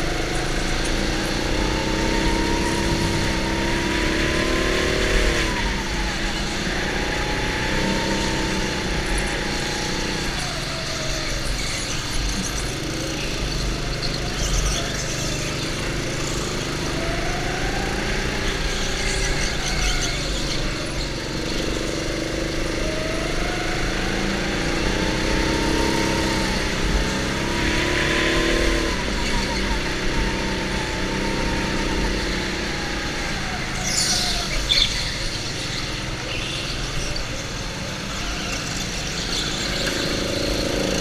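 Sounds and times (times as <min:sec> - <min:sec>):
go-kart motor revving: 0:00.0 - 0:41.0.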